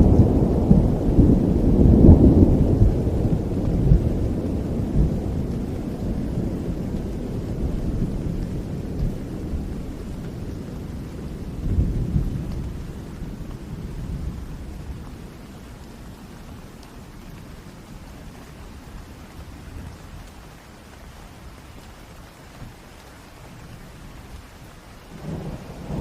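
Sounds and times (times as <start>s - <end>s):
thunder rumbling: 0.0s - 20.5s, 22.6s - 26.0s
steady rain: 0.0s - 26.0s.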